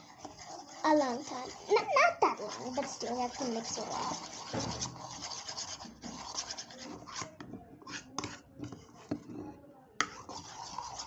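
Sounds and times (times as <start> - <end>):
spoon scraping in a bowl: 0.0 - 11.0.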